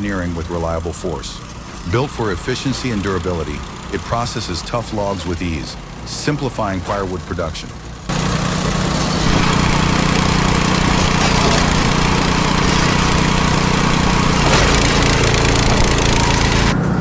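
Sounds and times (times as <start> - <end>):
log splitter motor running: 0.0 - 17.0.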